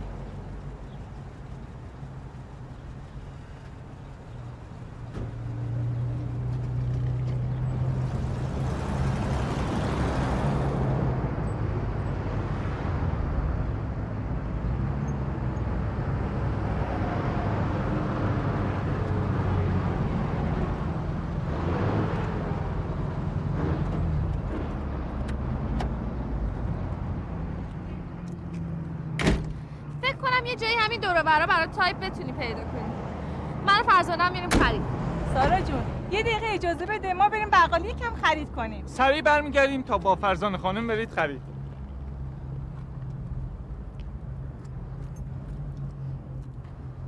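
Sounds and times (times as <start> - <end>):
car engines humming: 0.0 - 47.0
vehicles passing: 0.0 - 47.0.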